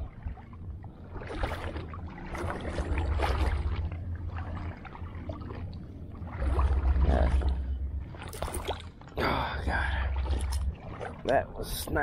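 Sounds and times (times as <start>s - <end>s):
footsteps wading through water and mud: 0.0s - 12.0s
steady low rumble: 0.0s - 12.0s.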